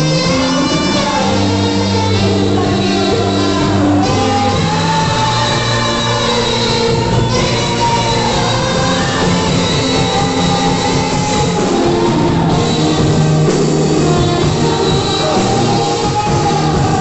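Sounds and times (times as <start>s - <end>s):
band backing: 0.0s - 17.0s
saxophone playing: 0.0s - 17.0s.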